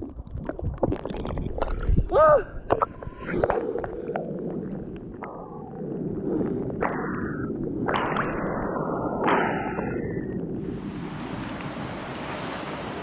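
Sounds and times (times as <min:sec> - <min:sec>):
murky rush of water: 0:00.0 - 0:13.0
swishes through water: 0:00.0 - 0:13.0
water sloshing and splashing: 0:00.0 - 0:13.0.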